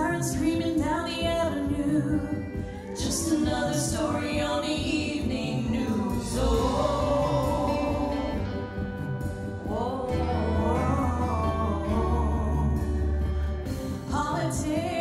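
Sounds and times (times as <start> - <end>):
women singing a duet: 0.0 - 15.0.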